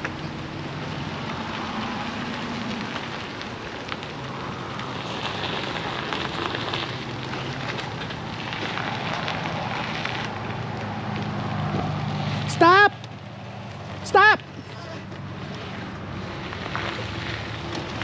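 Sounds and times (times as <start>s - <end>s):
crackling rustling noise: 0.0s - 18.0s
vehicle engine running low: 0.0s - 18.0s.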